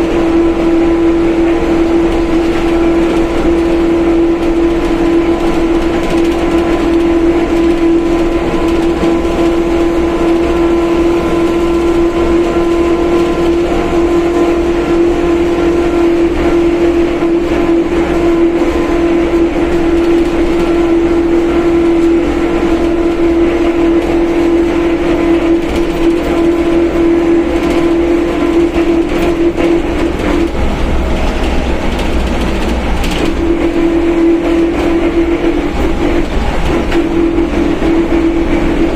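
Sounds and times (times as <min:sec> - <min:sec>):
bus differential whining: 0:00.0 - 0:38.9
bus running and road noise: 0:00.0 - 0:38.9.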